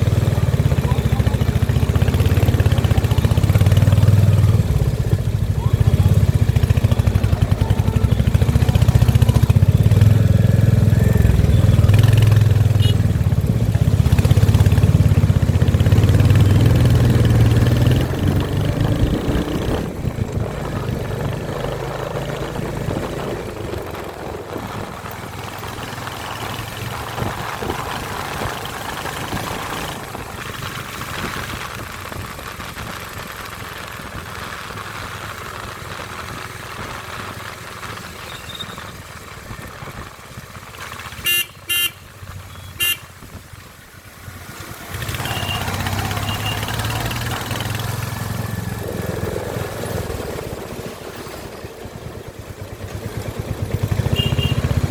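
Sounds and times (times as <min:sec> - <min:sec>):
motorcycle engine exhaust rumble: 0:00.0 - 0:54.9.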